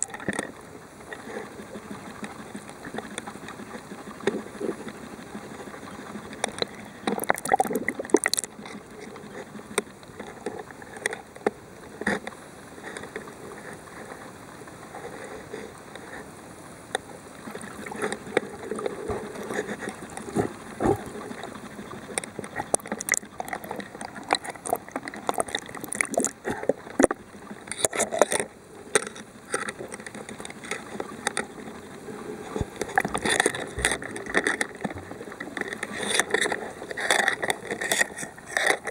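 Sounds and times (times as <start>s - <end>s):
muffled underwater water wash: 0.0s - 38.9s.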